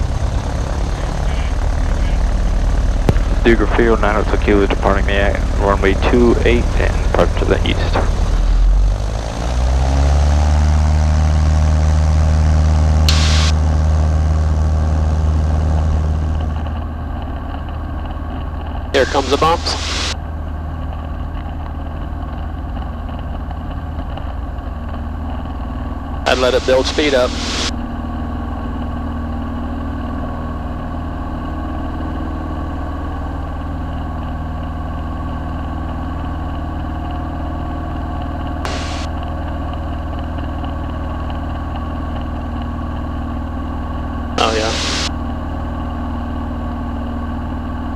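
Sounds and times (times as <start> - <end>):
propeller plane engine drone: 0.0 - 47.9.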